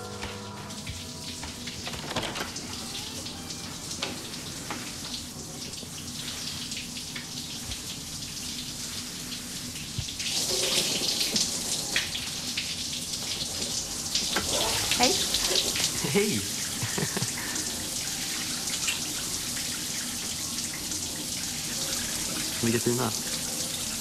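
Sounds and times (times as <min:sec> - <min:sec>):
hiss of running water: 0:02.6 - 0:24.0.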